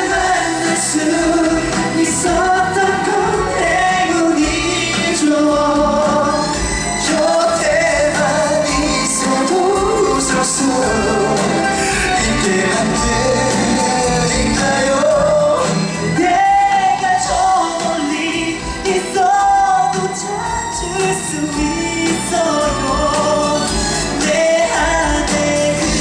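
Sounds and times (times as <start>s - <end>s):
band accompaniment: 0.0s - 26.0s
male vocal group singing: 0.0s - 26.0s.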